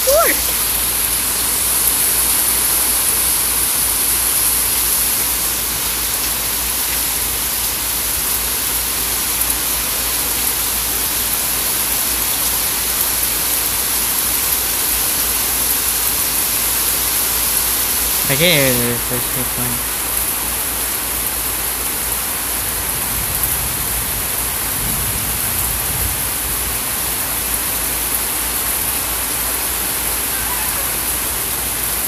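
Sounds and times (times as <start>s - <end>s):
heavy rain pouring: 0.0s - 32.0s
faint ticks of raindrops: 0.1s - 32.0s.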